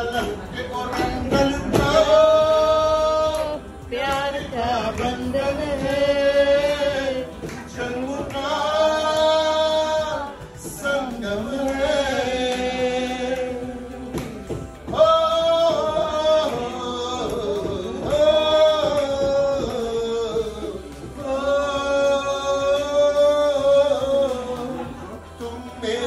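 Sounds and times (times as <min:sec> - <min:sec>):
music with singing voice: 0:00.0 - 0:26.0.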